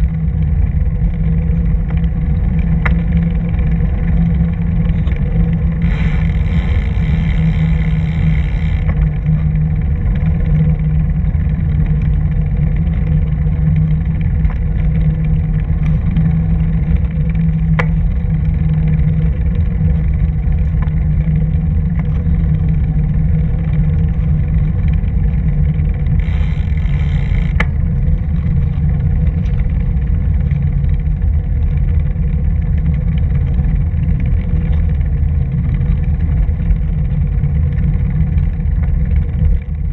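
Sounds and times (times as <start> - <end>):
tyre noise on paved path: 0.0 - 39.9
wind rumble: 0.0 - 39.9.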